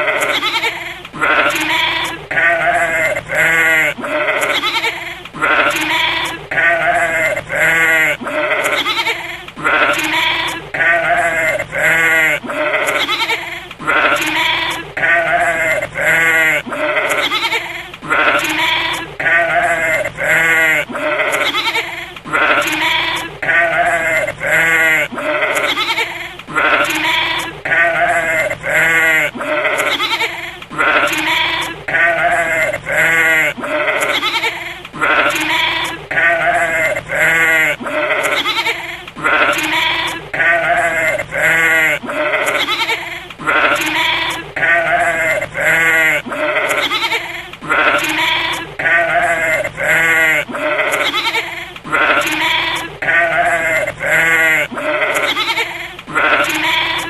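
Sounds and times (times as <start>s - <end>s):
goat bleating: 0.0s - 57.0s.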